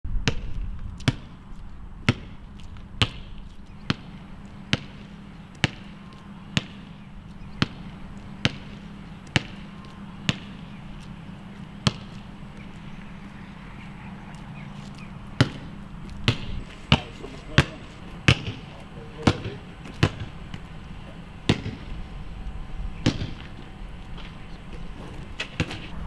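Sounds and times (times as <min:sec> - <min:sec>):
basketball bouncing on hard ground: 0:00.1 - 0:22.2, 0:23.0 - 0:26.0.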